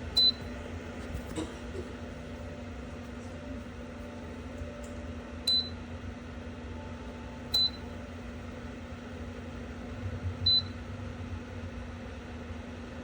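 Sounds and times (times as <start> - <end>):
heater fan humming: 0.0 - 13.0.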